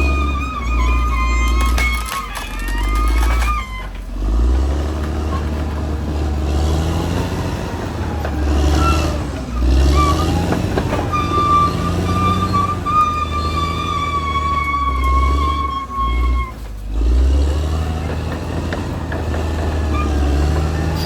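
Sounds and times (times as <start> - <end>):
bulldozer diesel engine: 0.0 - 21.0.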